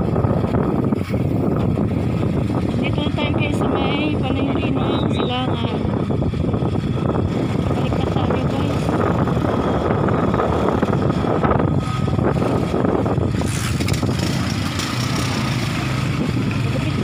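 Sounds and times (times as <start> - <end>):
small motorcycle engine running: 0.0 - 17.0
wind and road noise: 0.0 - 17.0.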